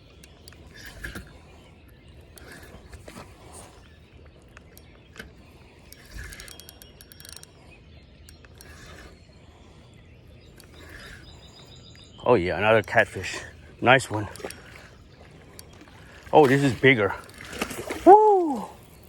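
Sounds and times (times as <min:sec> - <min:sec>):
fishing reel ticking and whirring: 0:00.0 - 0:19.0.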